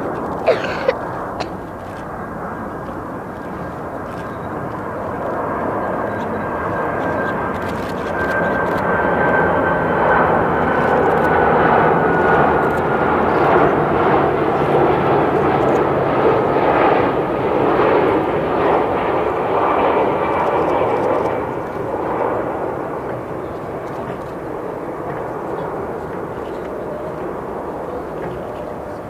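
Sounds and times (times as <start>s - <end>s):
high jet whine: 0.0s - 29.0s
jet engines roaring: 0.0s - 29.0s.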